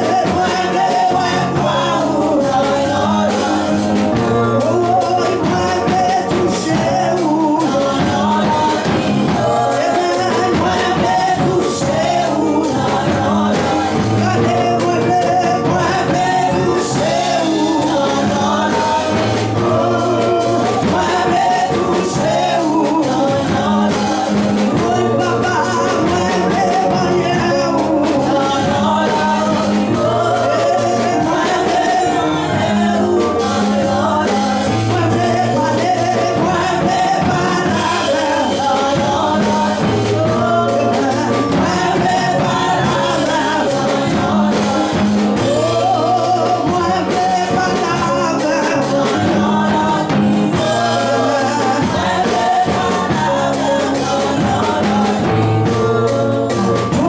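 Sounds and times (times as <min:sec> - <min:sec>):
gospel choir singing with band: 0:00.0 - 0:57.0.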